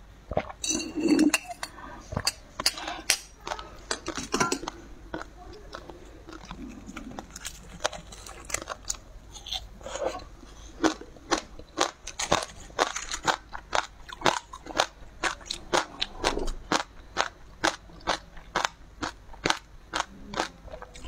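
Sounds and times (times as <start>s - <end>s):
person chewing crunchy food: 2.1s - 21.0s.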